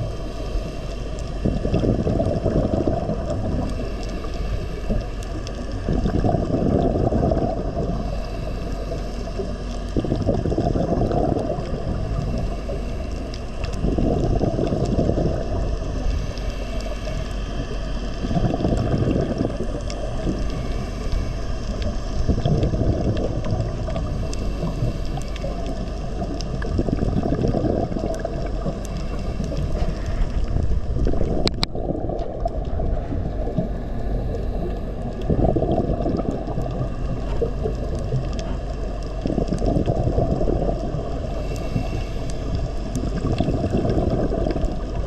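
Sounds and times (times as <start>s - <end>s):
muffled water noise: 0.0s - 45.0s.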